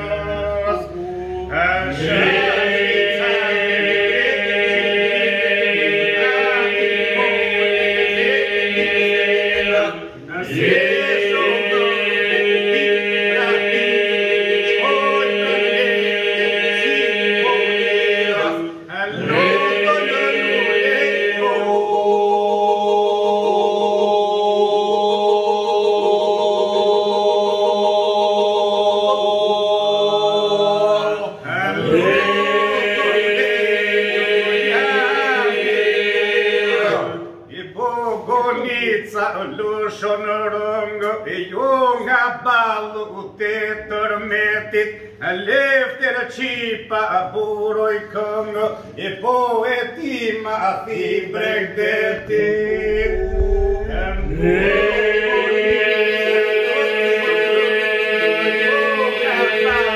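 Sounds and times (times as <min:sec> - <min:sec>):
men singing a cappella: 0:00.0 - 0:59.9.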